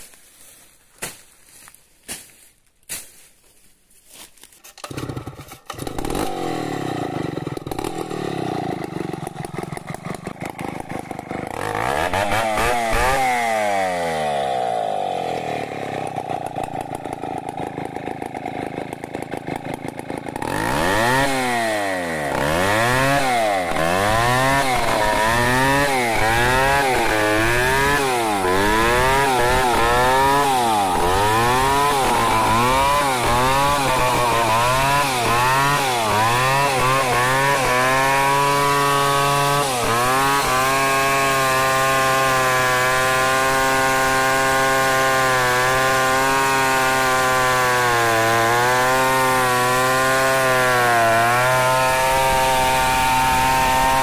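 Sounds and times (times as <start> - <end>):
chainsaw cutting log: 0.0 - 3.3, 4.1 - 54.0.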